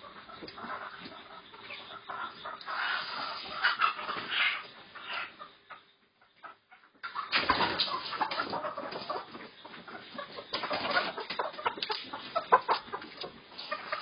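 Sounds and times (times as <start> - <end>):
hens squawking and clucking: 0.0 - 14.0.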